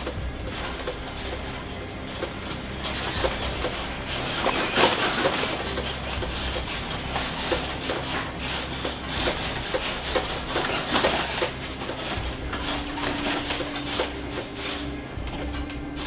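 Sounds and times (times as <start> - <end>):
bus interior rattling and clattering: 0.0 - 16.0.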